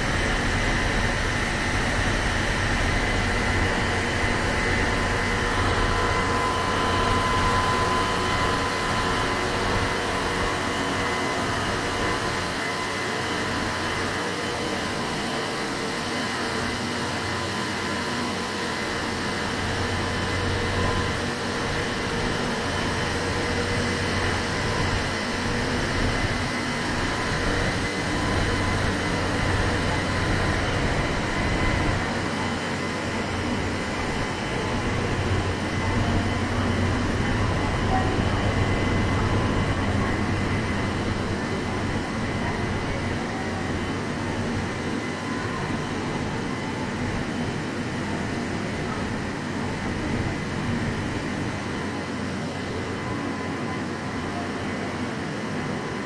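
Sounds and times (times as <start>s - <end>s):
train running rumble: 0.0s - 55.8s
faint steady whine: 0.0s - 56.0s.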